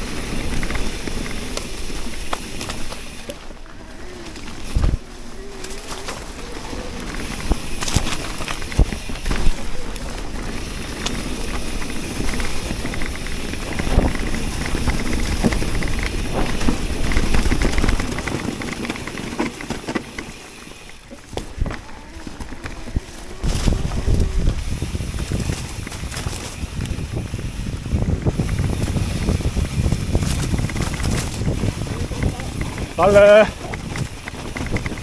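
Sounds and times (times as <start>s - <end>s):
bike frame rattling: 0.0s - 35.0s
tyres rolling over leaves: 0.0s - 35.0s
wind rumble on microphone: 4.4s - 19.2s, 21.3s - 35.0s.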